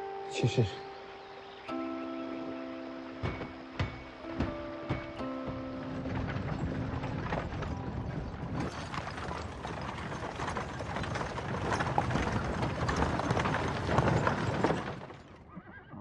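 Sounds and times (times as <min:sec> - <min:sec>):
wheels crunching over gravel: 0:00.6 - 0:15.6
hooves clip-clopping on gravel: 0:02.6 - 0:15.5.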